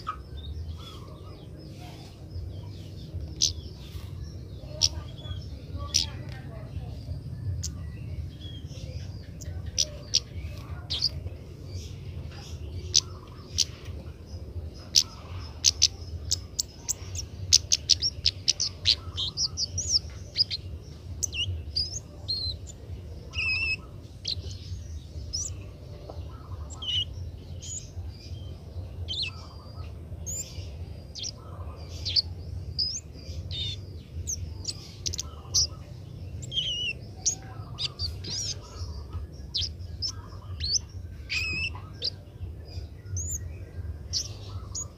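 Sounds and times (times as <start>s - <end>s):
bird chirping and twittering: 0.0s - 44.9s
steady low hum: 0.0s - 44.9s.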